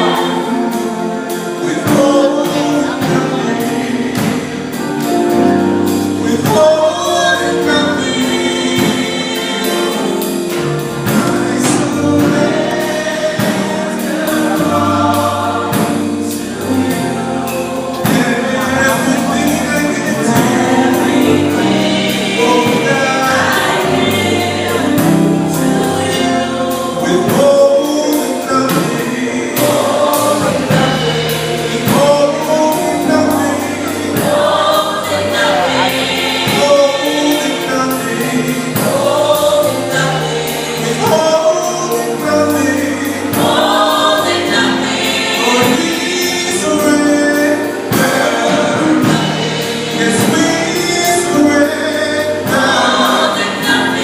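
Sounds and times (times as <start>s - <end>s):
band playing: 0.0s - 54.0s
gospel choir singing: 0.0s - 54.0s.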